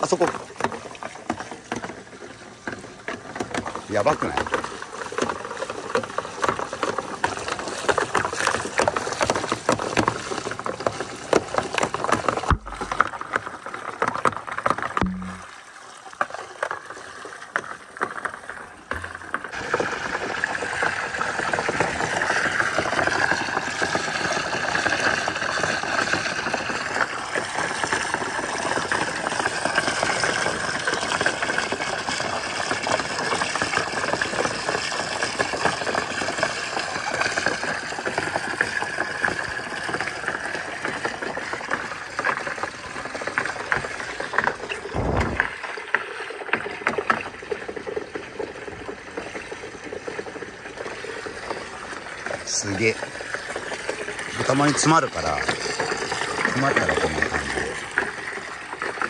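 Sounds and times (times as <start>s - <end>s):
water rushing through tracks: 0.0s - 59.0s.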